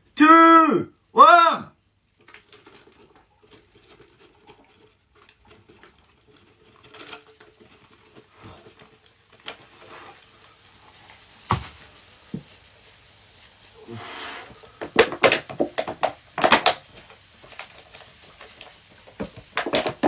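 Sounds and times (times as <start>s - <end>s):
powder pattering on plastic: 1.8s - 20.0s.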